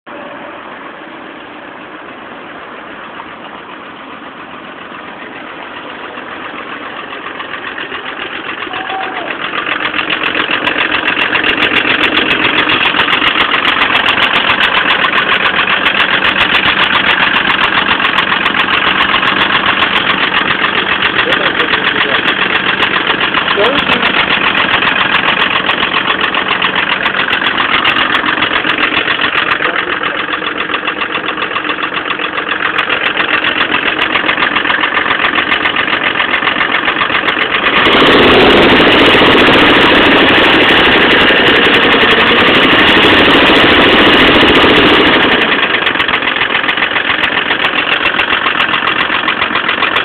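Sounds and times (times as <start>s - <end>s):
diesel engine clattering: 0.1s - 50.0s.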